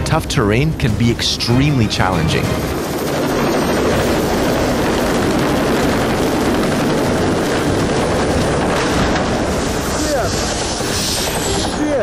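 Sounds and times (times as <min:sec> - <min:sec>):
helicopter rotor and turbine noise: 0:00.0 - 0:12.0.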